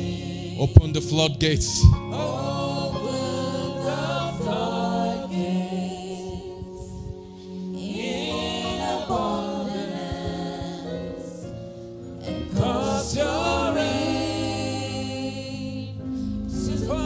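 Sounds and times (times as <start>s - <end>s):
instrumental backing: 0.0s - 17.0s.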